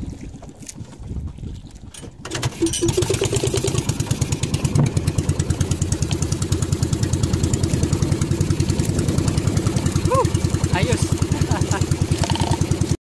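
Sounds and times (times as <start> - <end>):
small boat engine chugging: 2.1 - 13.0.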